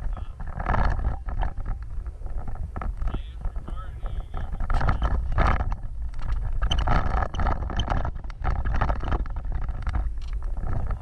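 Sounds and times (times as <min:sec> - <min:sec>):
knocks and rattles: 0:00.0 - 0:11.0
off-road vehicle rumbling: 0:00.0 - 0:11.0.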